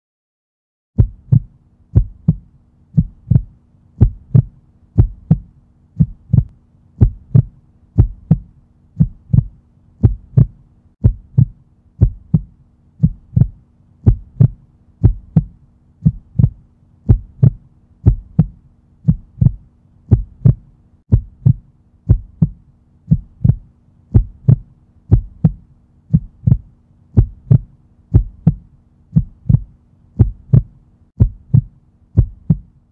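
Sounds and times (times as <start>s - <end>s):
heartbeat-like thump: 1.0s - 32.8s
faint low hum: 1.0s - 32.9s.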